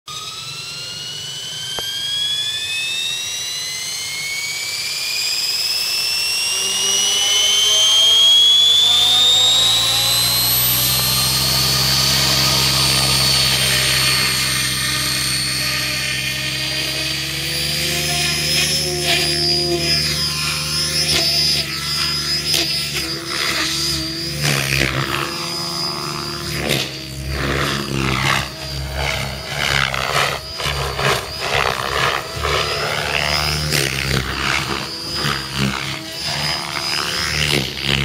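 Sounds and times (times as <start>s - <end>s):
model helicopter motor whine: 0.1s - 38.0s
rotor blades humming: 0.1s - 38.0s.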